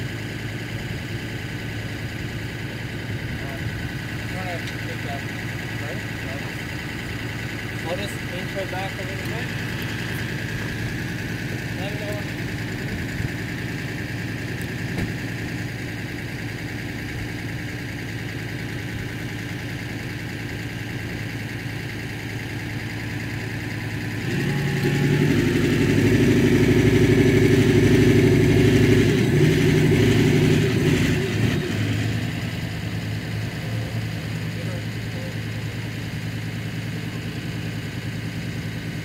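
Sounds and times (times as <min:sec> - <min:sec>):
engine idling and straining: 0:00.0 - 0:39.0.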